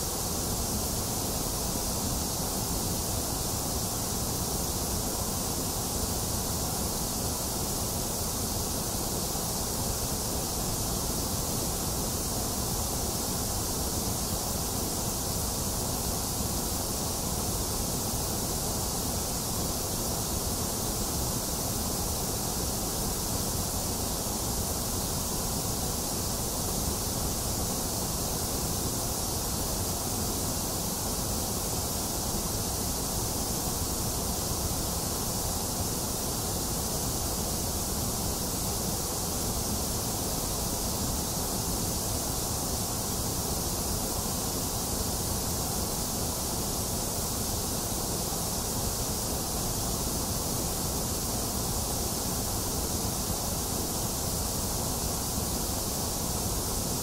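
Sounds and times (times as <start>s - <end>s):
steady white noise hiss: 0.0s - 57.0s.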